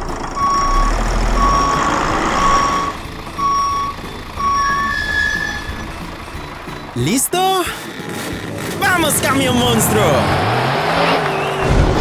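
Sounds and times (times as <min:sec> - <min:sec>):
engine running: 0:00.0 - 0:07.2, 0:07.8 - 0:12.0
truck reversing alarm beeping: 0:00.0 - 0:12.0.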